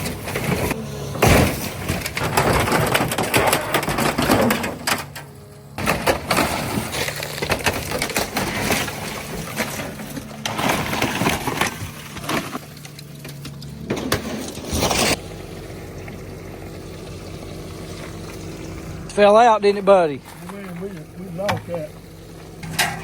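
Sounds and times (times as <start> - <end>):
low engine hum: 0.0 - 23.0
metal clattering and crunching: 0.0 - 23.0.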